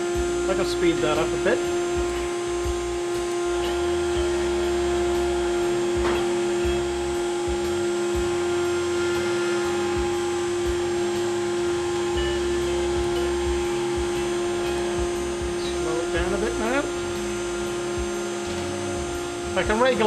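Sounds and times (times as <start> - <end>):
axis motors moving: 0.0 - 20.0
mill cutting wood: 0.0 - 20.0
router spindle whine: 0.0 - 20.0.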